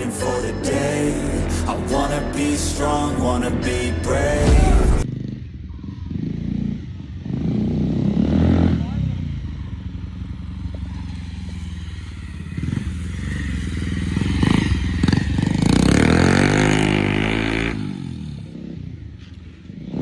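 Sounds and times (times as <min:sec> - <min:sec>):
motorcycle passing by: 0:00.0 - 0:20.0.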